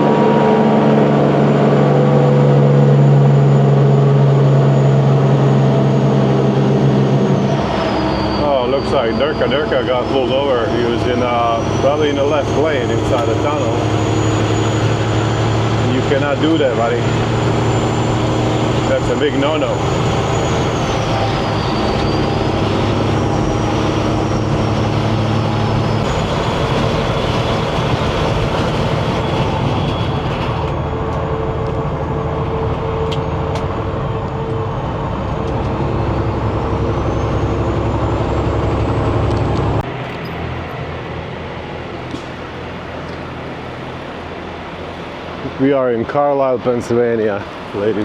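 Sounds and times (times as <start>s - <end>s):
high turbo whistle: 0.0s - 39.9s
truck diesel engine pulling: 0.0s - 48.0s.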